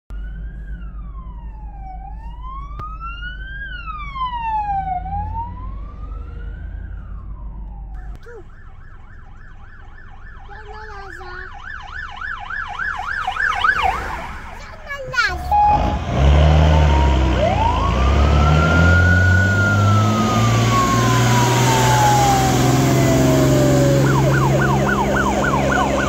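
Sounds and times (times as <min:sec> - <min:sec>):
ambulance siren yelping: 0:00.1 - 0:26.0
low car rumble: 0:00.1 - 0:26.0
police siren wailing: 0:00.1 - 0:26.0.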